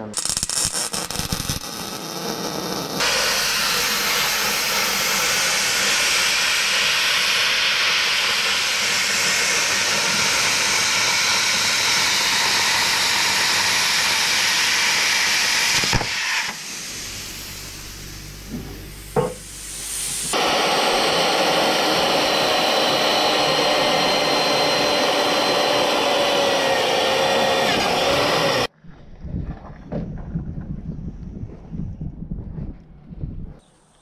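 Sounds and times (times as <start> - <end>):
welding arc sizzling: 0.0 - 28.7.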